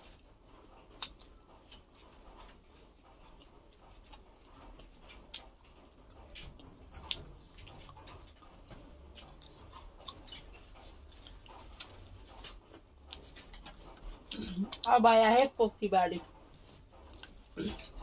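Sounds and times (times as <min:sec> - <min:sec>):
chewing: 0:00.0 - 0:15.6, 0:16.2 - 0:18.0.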